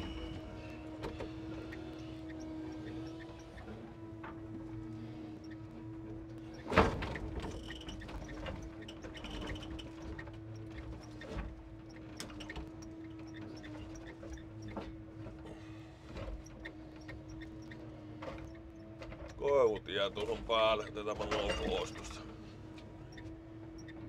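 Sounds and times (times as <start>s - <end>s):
truck engine humming: 0.0s - 24.0s.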